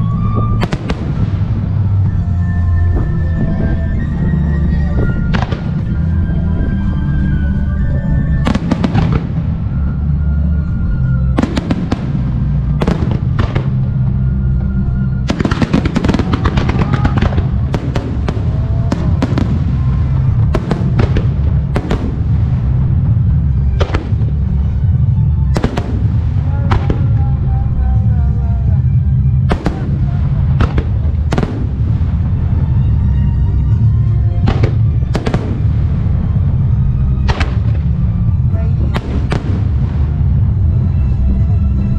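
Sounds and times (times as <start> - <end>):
fireworks booming: 0.0 - 7.4, 8.3 - 41.2
fireworks crackling: 0.0 - 7.4, 8.2 - 41.2
music playing: 0.0 - 41.9.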